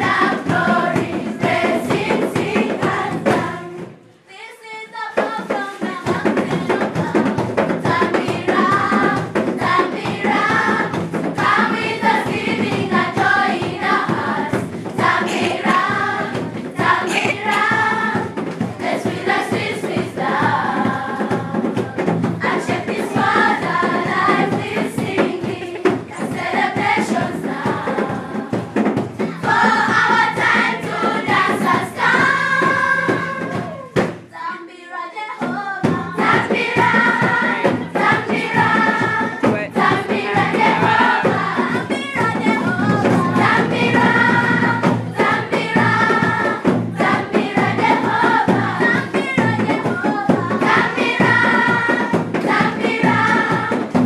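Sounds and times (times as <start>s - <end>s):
steady beat: 0.0s - 4.0s, 5.9s - 34.3s, 36.0s - 54.0s
children's choir singing: 0.0s - 54.0s.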